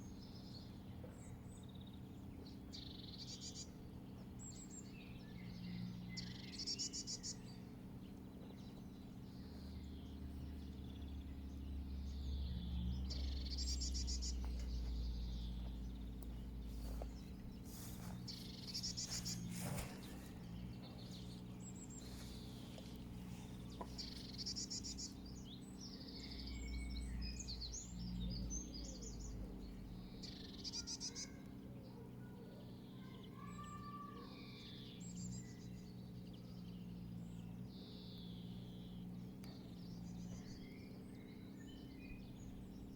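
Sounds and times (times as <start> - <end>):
low rumble of wind: 0.0 - 33.8, 34.4 - 42.9
birds chirping and singing: 0.0 - 42.9.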